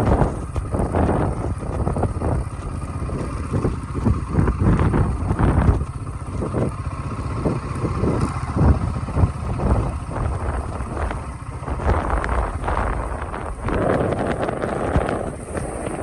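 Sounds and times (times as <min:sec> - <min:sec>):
vehicle driving rumble: 0:00.0 - 0:16.0
wind buffeting microphone: 0:00.0 - 0:16.0.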